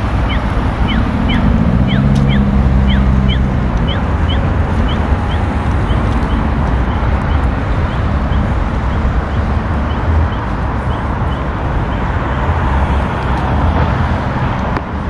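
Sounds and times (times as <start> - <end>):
pedestrian crossing signal chirps: 0.0 - 13.2
street traffic noise: 0.0 - 15.0
vehicle engine passing: 0.0 - 15.0.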